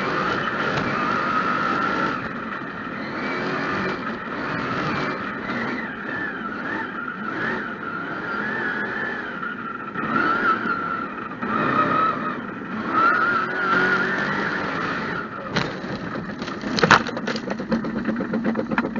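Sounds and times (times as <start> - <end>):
truck engine running under load: 0.0 - 18.9.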